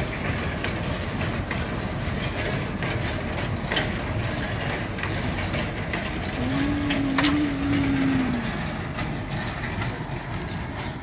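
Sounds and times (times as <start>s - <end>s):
train wheels rattling on rail: 0.0s - 11.0s.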